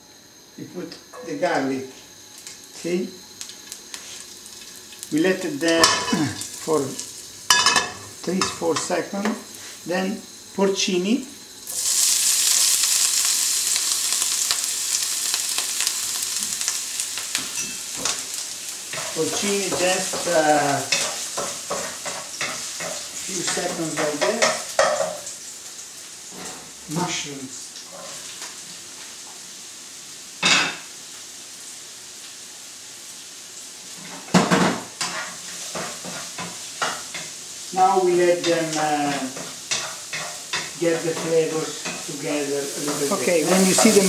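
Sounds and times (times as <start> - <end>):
mushrooms sizzling in oil: 0.0 - 44.0.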